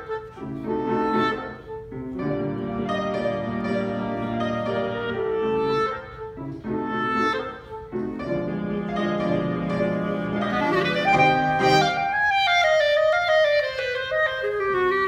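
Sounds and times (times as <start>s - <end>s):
clarinet melody: 0.0s - 15.0s
piano chords: 0.0s - 15.0s.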